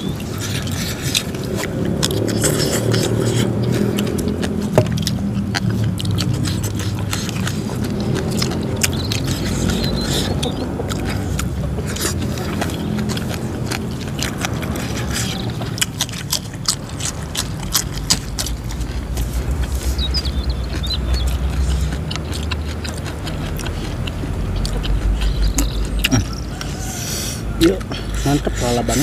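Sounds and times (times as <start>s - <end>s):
close chewing and crunching: 0.0s - 29.0s
wet mouth clicks: 0.0s - 29.0s.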